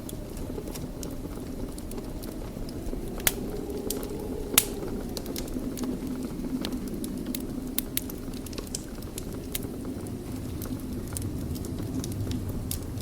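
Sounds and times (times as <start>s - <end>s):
low rumble: 0.0s - 13.0s
wood fire crackling and popping: 0.0s - 13.0s.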